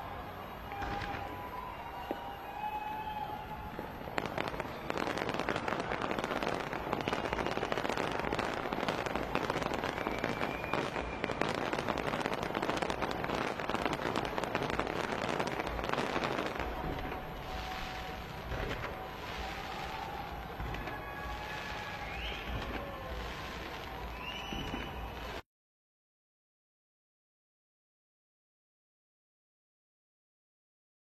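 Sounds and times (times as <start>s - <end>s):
fireworks crackling: 0.0s - 25.4s.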